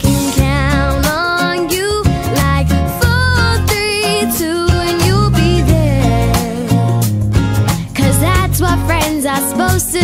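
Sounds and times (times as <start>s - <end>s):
bright pop song: 0.0s - 10.0s.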